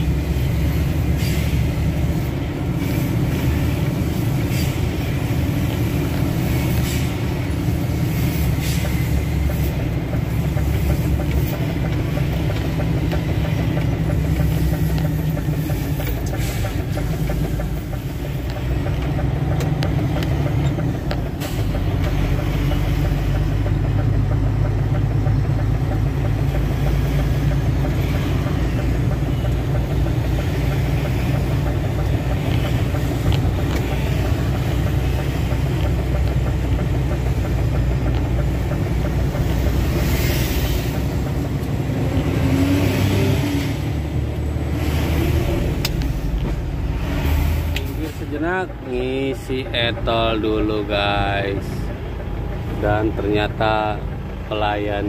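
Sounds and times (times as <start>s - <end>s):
diesel truck engine running: 0.0s - 55.0s
knocks and clicks: 8.8s - 54.5s.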